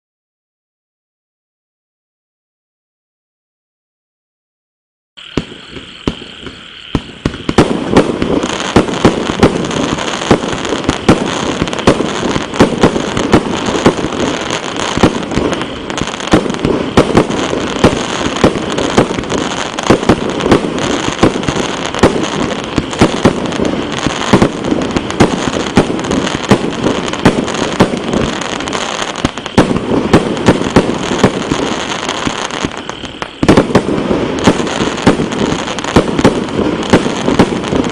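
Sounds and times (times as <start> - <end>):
fireworks launching and bursting: 5.2 - 37.9.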